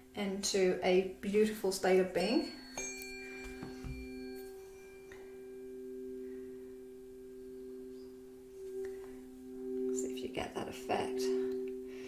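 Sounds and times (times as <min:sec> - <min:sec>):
tuning forks ringing: 0:02.1 - 0:12.0.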